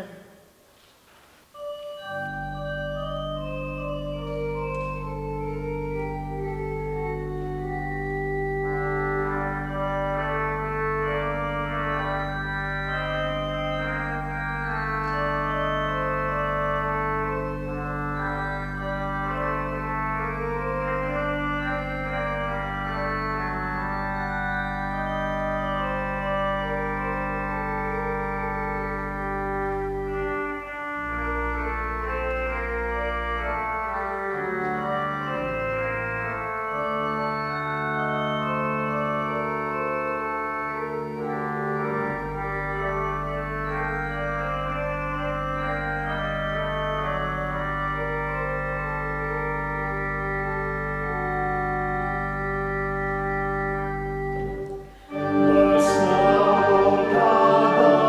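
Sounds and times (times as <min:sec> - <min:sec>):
church organ playing: 0:01.4 - 0:58.0.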